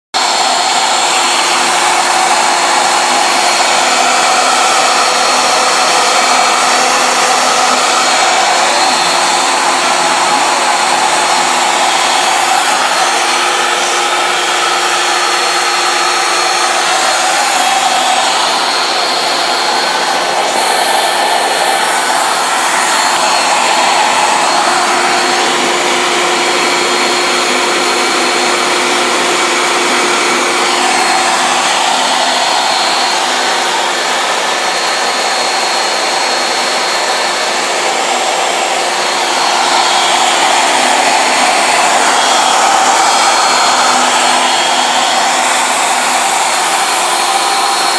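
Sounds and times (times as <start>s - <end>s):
router spindle whine milling: 0.1s - 47.9s
vacuum hissing through hose: 0.2s - 47.9s.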